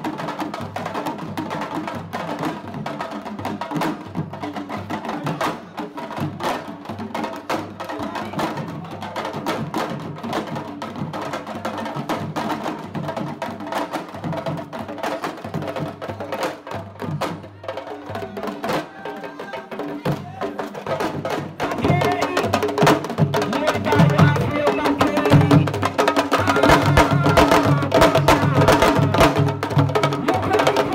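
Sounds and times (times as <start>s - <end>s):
group hand drumming: 0.0s - 30.9s.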